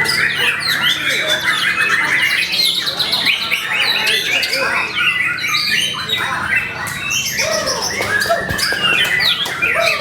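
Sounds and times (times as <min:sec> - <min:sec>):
bird clicks and chatters: 0:00.0 - 0:10.0.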